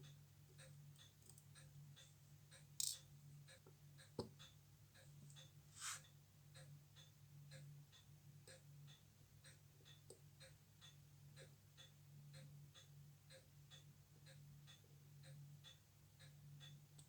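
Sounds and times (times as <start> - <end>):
watch ticking: 0.0 - 5.6, 6.5 - 17.0.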